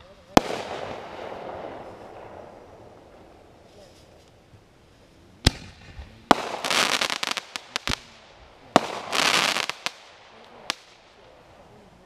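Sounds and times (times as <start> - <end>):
firework crackle: 0.0 - 12.0
firework bangs: 0.3 - 4.3, 5.4 - 11.2.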